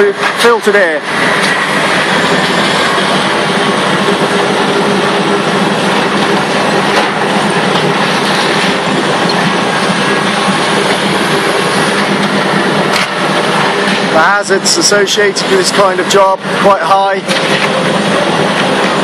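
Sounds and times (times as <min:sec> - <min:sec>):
excavator running: 0:00.0 - 0:19.0.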